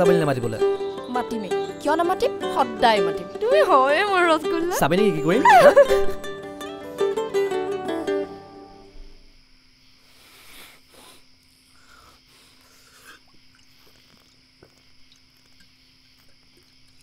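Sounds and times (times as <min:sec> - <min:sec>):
faint high hiss: 0:00.0 - 0:17.0.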